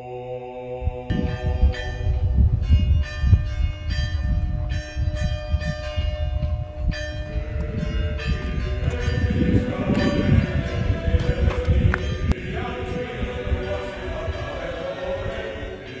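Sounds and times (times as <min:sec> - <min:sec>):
low rumble: 0:00.7 - 0:14.6
church bells ringing: 0:01.1 - 0:16.0.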